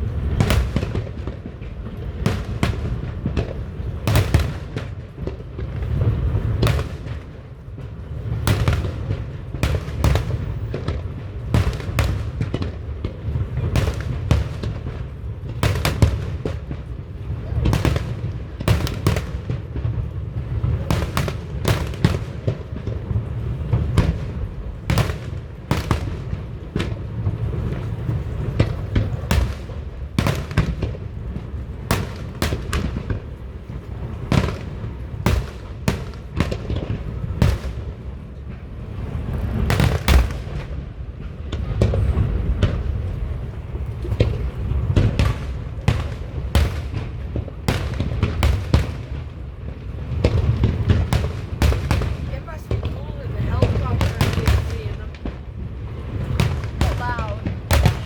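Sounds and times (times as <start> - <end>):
firework bursts crackling: 0.0 - 58.0
booms rumbling and echoing: 8.2 - 58.0.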